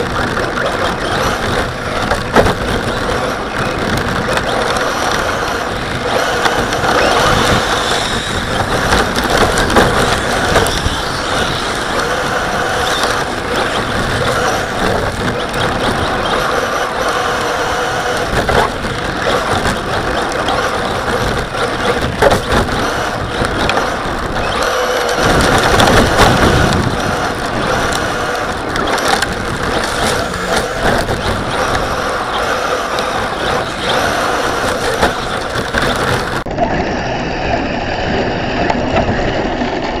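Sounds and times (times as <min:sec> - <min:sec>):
toy car drivetrain noise: 0:00.0 - 0:40.0
tyres on snow and ice: 0:00.0 - 0:40.0.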